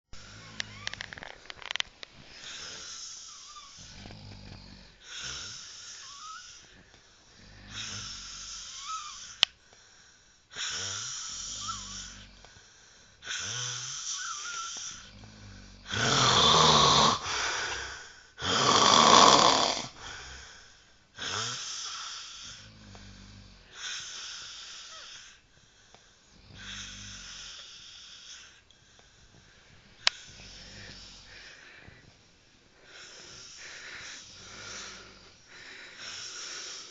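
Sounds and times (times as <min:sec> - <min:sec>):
wheezy snoring: 0:00.2 - 0:36.9.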